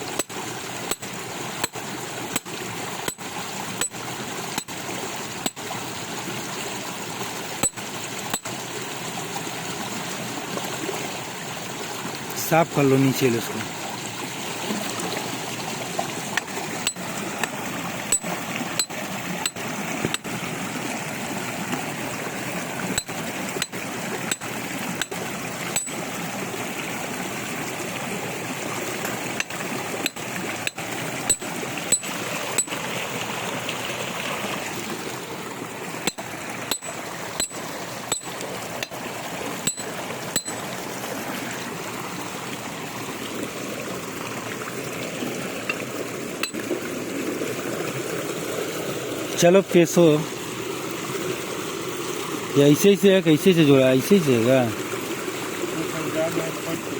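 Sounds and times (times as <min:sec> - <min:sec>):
water rushing and trickling: 0:00.0 - 0:56.9.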